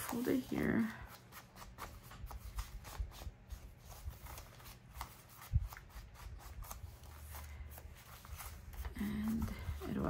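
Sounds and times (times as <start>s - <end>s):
paper rustling and scraping: 0.0s - 10.0s.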